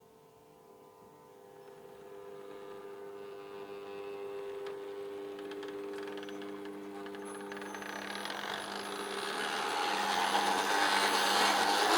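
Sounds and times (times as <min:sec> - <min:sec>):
model train motor hum: 0:00.6 - 0:11.9
wheels clicking on track: 0:01.6 - 0:11.9.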